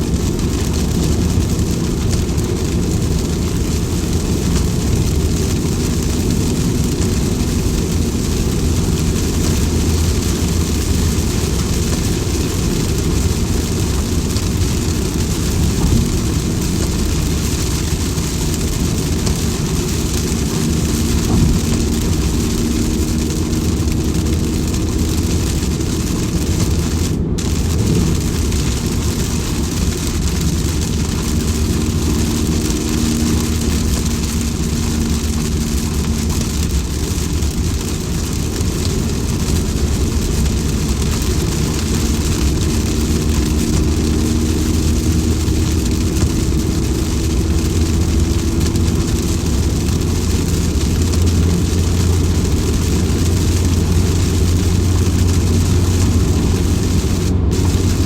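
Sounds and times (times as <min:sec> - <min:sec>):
heavy low rumble: 0:00.0 - 0:58.0
rain noise: 0:00.0 - 0:58.0.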